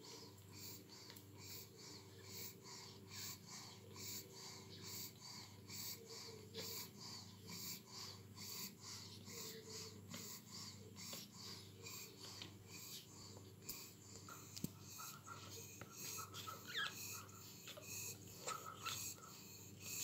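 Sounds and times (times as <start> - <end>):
puppies snuffling and suckling: 0.0 - 20.0.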